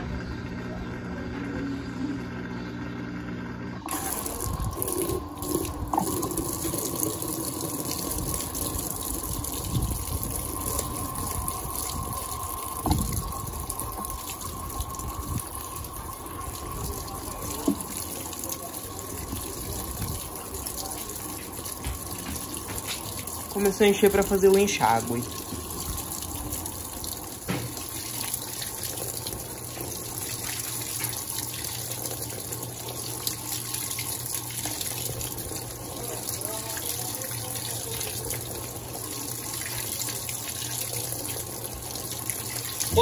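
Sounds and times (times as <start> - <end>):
washing machine filling with water: 3.8 - 43.0.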